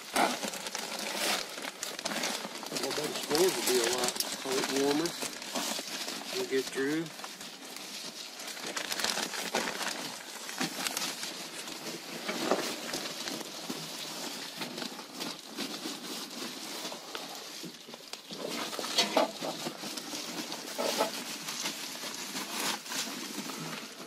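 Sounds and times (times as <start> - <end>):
rustling insulation: 0.0 - 24.0.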